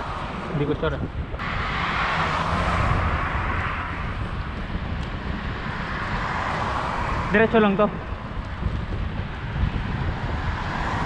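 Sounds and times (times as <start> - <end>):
bicycle road noise: 0.0 - 11.0
rushing wind: 0.0 - 11.0.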